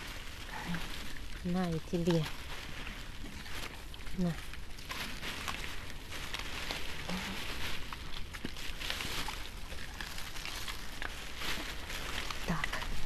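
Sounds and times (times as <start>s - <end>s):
dogs rustling in dry leaves: 0.0s - 13.0s.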